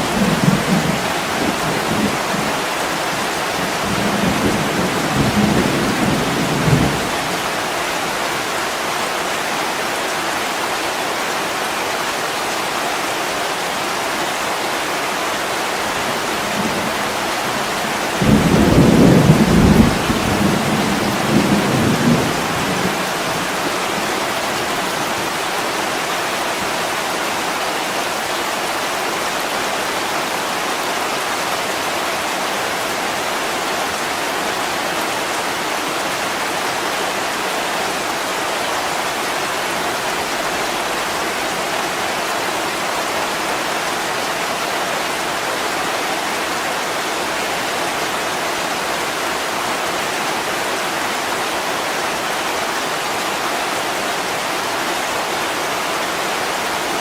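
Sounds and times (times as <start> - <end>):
heavy rain on a window: 0.0 - 57.0.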